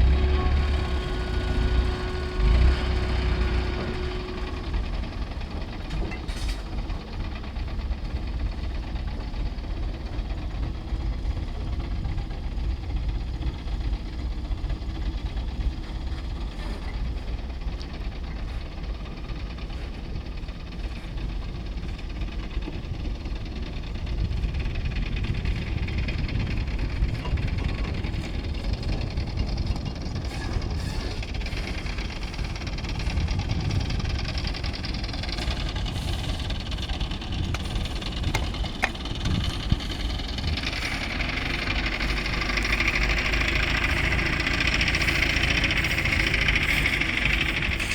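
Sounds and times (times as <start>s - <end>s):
diesel construction machinery rumbling: 0.0s - 47.9s.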